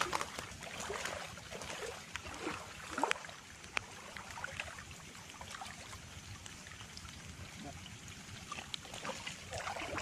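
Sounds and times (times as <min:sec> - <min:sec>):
footsteps wading through water: 0:00.0 - 0:07.3, 0:08.2 - 0:10.0
water trickling: 0:00.0 - 0:10.0.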